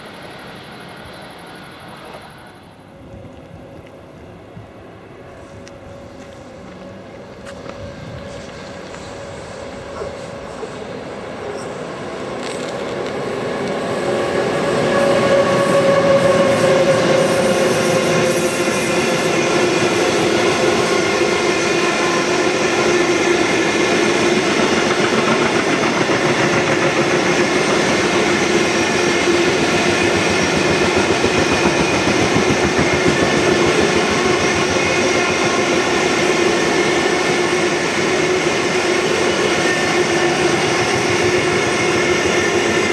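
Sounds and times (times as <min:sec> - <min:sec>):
train wheels on rail clickety-clack: 0:05.3 - 0:42.9.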